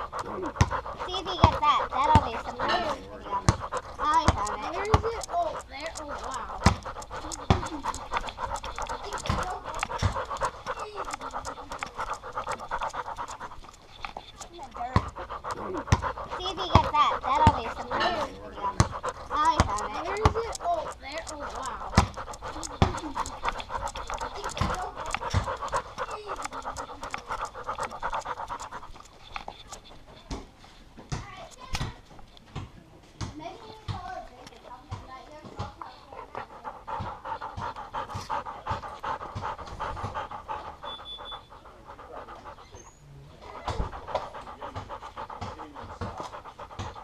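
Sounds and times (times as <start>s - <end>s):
dog panting rapidly: 0.0s - 32.4s, 33.2s - 47.0s.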